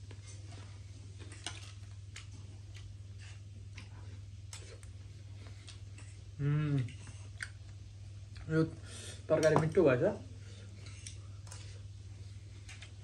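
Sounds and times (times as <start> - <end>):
soft chewing: 0.0 - 9.6, 10.3 - 13.0
steady low hum: 0.0 - 13.0.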